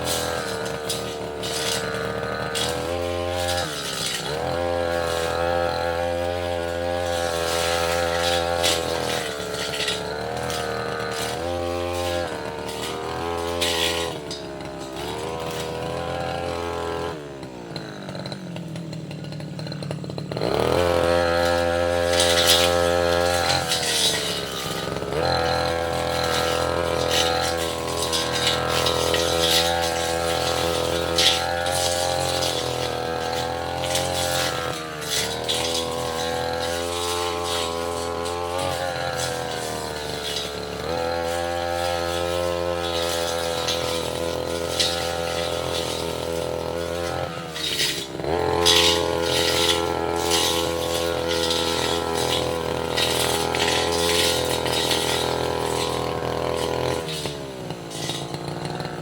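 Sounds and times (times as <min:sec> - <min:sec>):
brush cutter engine revving: 0:00.0 - 0:59.0.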